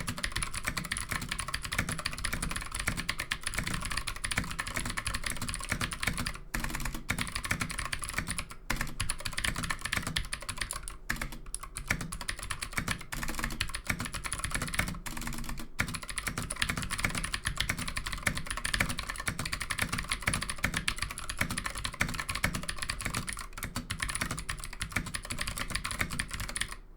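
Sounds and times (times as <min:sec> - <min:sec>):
mechanical keyboard typing: 0:00.0 - 0:26.8.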